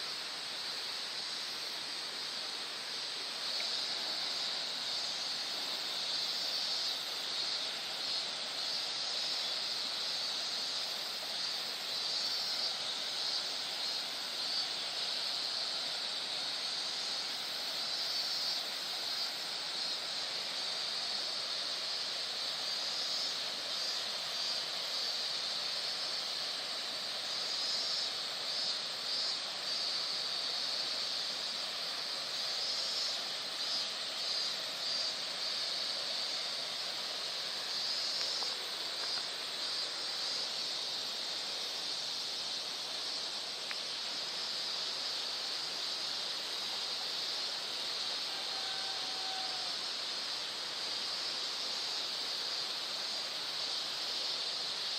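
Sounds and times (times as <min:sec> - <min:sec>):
stream babbling: 0:00.0 - 0:48.4
high hiss: 0:00.0 - 0:54.9.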